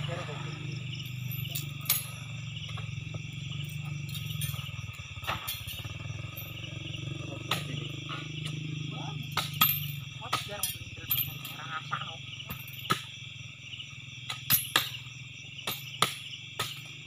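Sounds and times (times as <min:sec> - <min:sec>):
engine idling low rumble: 0:00.0 - 0:15.4.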